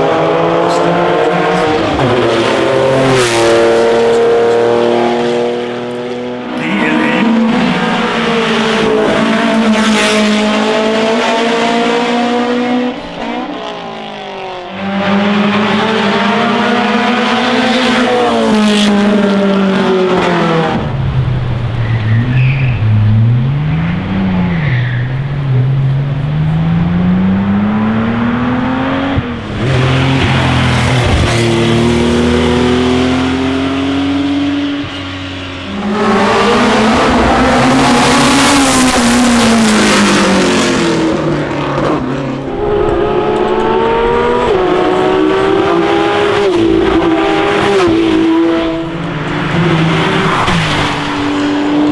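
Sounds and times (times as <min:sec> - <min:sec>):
racing car engines revving: 0:00.0 - 0:51.9.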